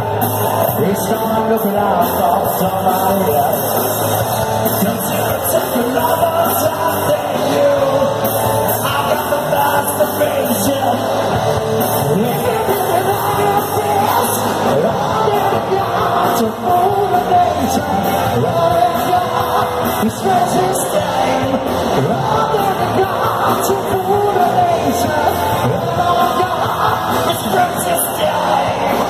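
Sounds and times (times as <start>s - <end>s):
bass guitar: 0.0s - 29.0s
drum kit: 0.0s - 29.0s
electric guitars: 0.0s - 29.0s
man singing: 0.5s - 29.0s.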